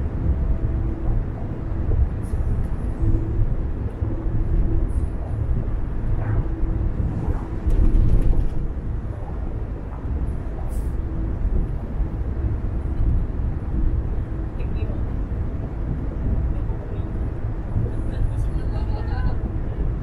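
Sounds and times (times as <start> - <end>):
car tyre and engine rumble: 0.0 - 20.0.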